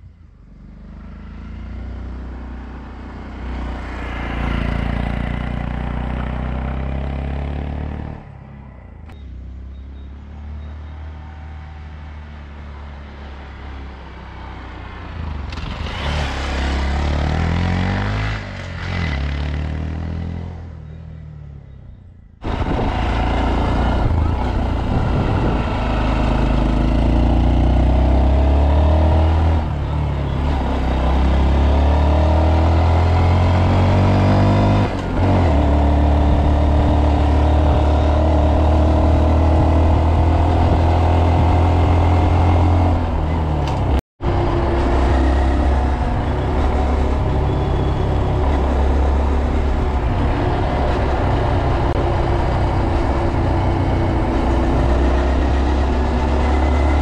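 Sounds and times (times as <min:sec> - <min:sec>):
motorcycle engine accelerating: 0:00.4 - 0:08.4, 0:15.1 - 0:21.7, 0:22.4 - 0:57.0.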